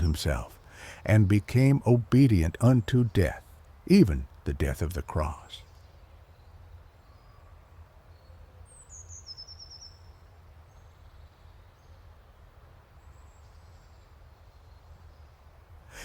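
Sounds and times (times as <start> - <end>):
low outdoor background hum: 0.0 - 16.0.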